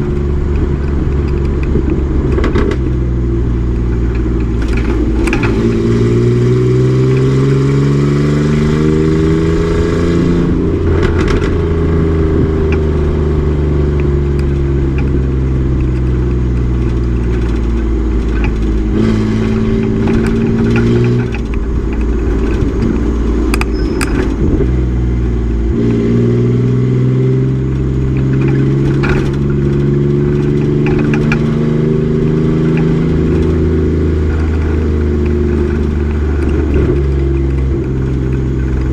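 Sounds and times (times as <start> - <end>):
race truck engine revving: 4.0 - 38.9.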